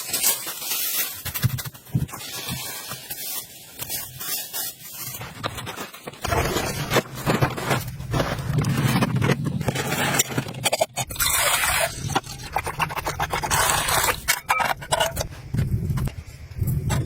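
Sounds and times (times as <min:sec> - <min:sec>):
scraping strokes: 0:00.2 - 0:17.0.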